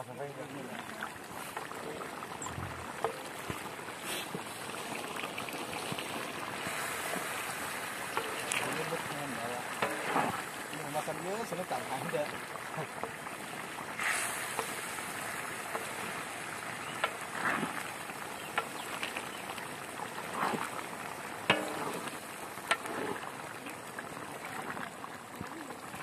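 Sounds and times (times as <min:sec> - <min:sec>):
curry bubbling in a pot: 0:00.0 - 0:26.0.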